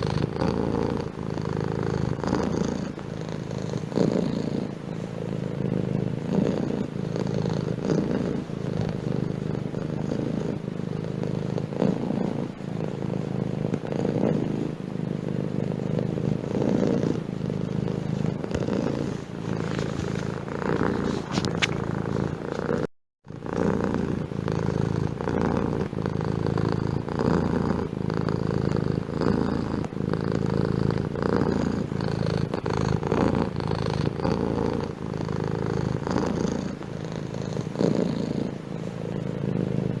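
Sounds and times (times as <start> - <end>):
cat purring: 0.0 - 40.0.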